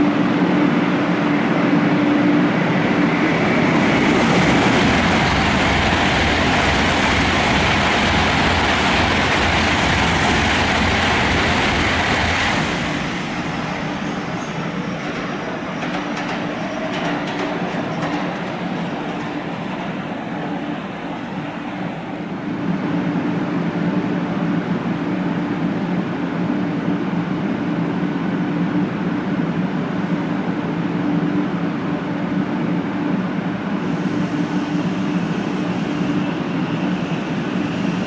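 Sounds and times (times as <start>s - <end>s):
train rushing rumble: 0.0s - 38.0s.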